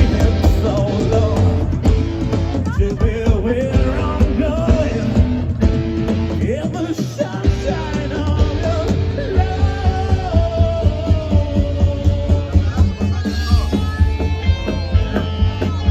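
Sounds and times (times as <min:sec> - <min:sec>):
person singing: 0:00.0 - 0:05.6, 0:06.2 - 0:15.9
live rock band: 0:00.0 - 0:15.9.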